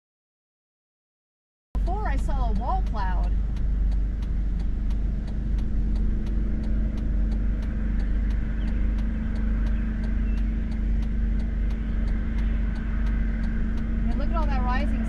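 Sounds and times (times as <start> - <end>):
car road and engine noise: 1.8 - 15.0
faint even ticking: 1.8 - 15.0.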